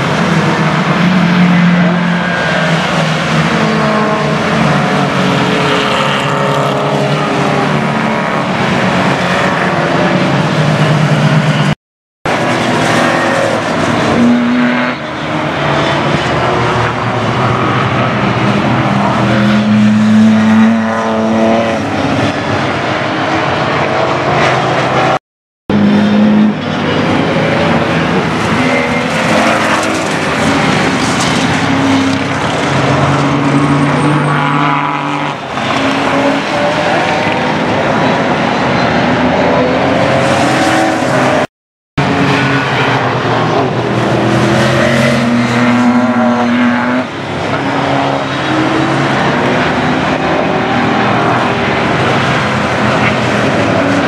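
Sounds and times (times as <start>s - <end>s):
racing car engines passing: 0.0s - 54.0s.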